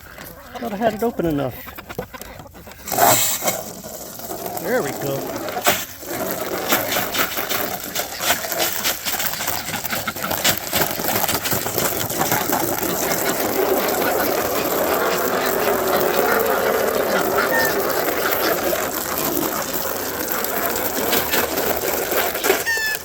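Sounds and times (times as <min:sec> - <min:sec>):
crackling clicks: 0:01.8 - 0:23.0
hose water splashing into pool: 0:02.8 - 0:23.0.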